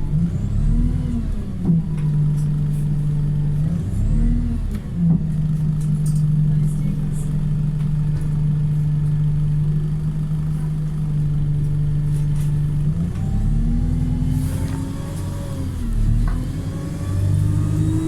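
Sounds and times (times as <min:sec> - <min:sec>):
bus engine accelerating: 0:00.0 - 0:18.0.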